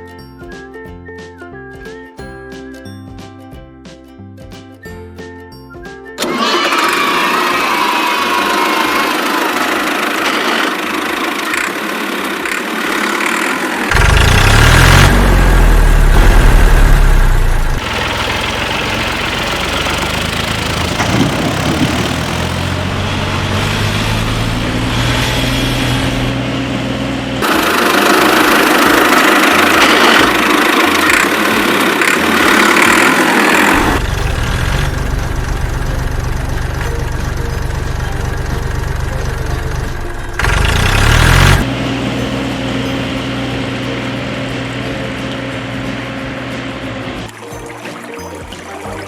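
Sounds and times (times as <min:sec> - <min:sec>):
tractor engine idling: 0:06.2 - 0:47.4.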